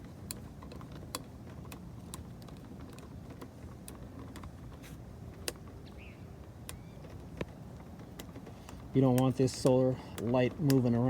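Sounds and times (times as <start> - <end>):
ornament clicking as screwed on: 0.0 - 11.0.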